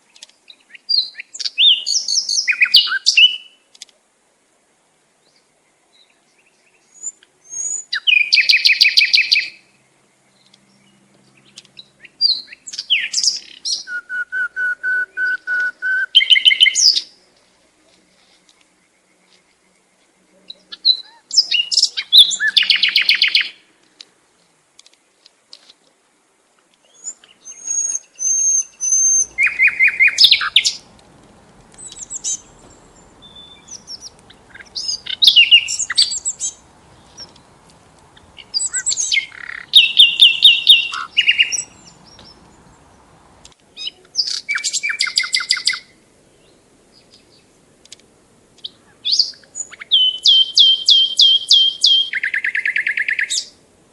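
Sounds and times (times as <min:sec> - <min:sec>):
songbird trills and chirps: 0:00.0 - 0:03.9, 0:05.2 - 0:24.6, 0:26.7 - 0:31.1, 0:31.7 - 0:53.6.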